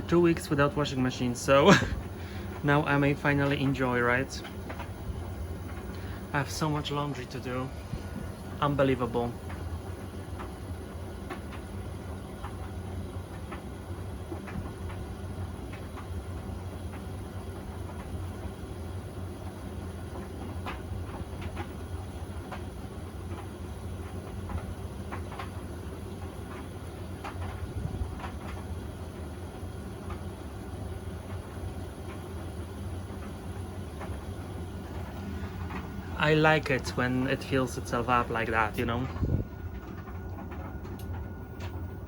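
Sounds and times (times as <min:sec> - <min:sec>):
washing machine filling with water: 0:00.0 - 0:42.0.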